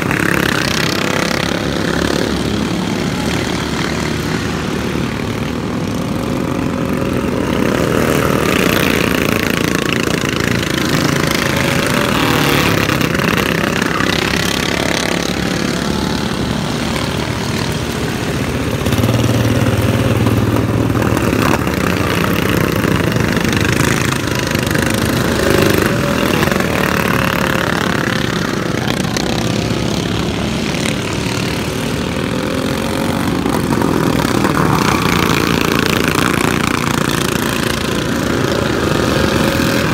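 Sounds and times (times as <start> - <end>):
racing lawn mower engines: 0.0 - 39.9.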